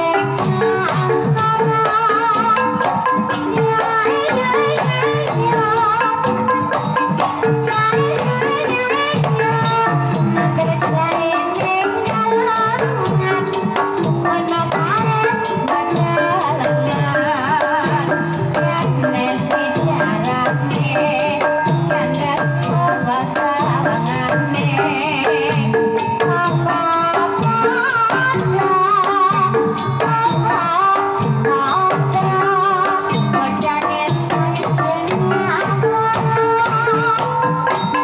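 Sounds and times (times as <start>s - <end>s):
hand drum beating: 0.0s - 38.0s.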